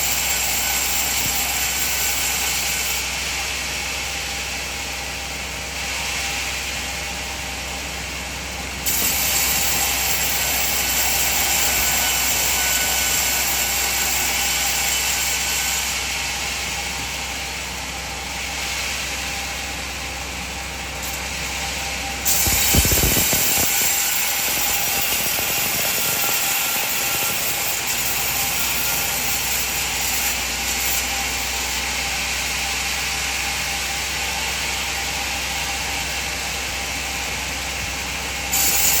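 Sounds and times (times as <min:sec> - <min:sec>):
band saw mechanical hiss: 0:00.0 - 0:08.1, 0:08.8 - 0:39.0.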